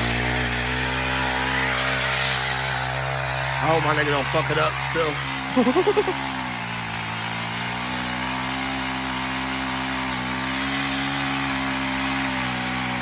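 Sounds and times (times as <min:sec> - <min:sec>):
chainsaw cutting branch: 0:00.0 - 0:13.0.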